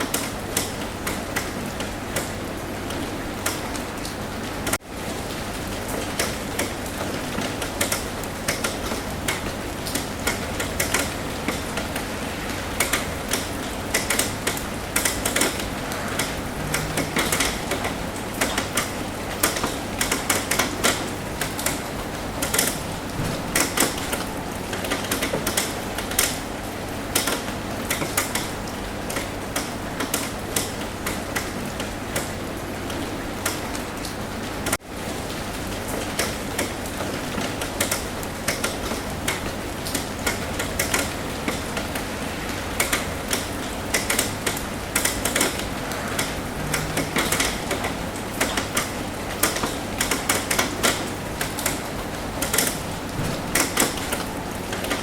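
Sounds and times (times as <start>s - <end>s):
rain pattering on a roof: 0.0s - 55.0s.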